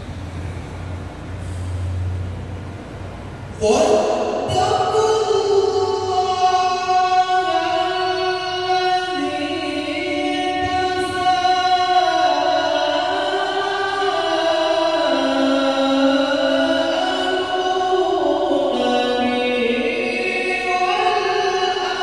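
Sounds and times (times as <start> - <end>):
man chanting melodic recitation: 3.5 - 22.0.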